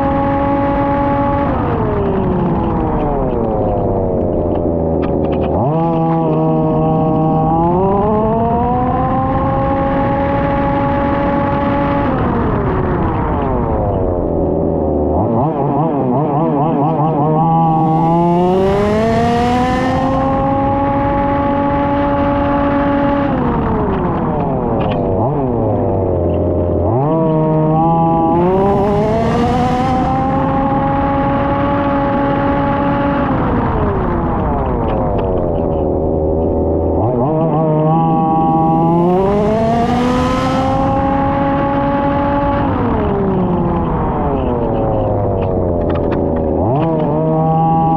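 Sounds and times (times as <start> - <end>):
two-stroke engine revving: 0.0 - 47.9.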